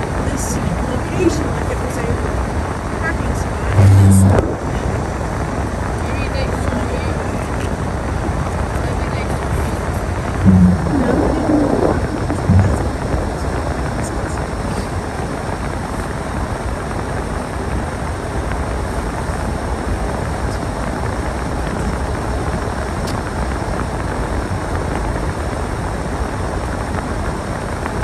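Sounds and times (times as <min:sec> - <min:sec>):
snowstorm wind blowing: 0:00.0 - 0:28.0
wind buffeting microphone: 0:00.0 - 0:28.0.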